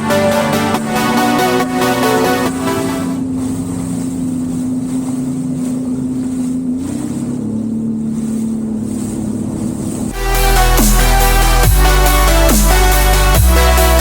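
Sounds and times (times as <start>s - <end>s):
jet ski engine hum: 0.0s - 14.0s
rushing water: 0.0s - 14.0s
wind: 1.8s - 13.2s.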